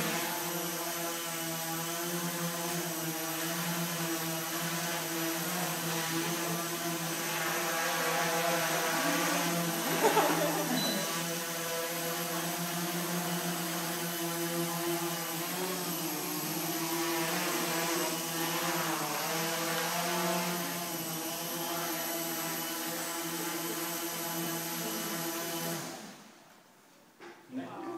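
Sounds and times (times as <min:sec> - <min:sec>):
drone buzzing in flight: 0:00.0 - 0:26.1.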